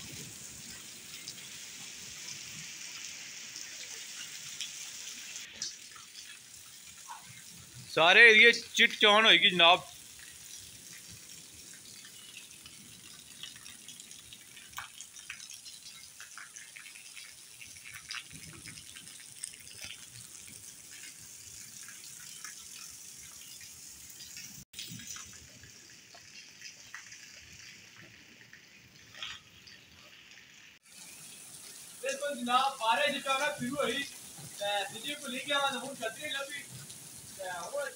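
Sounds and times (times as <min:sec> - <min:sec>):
steady rain: 0:00.0 - 0:37.9.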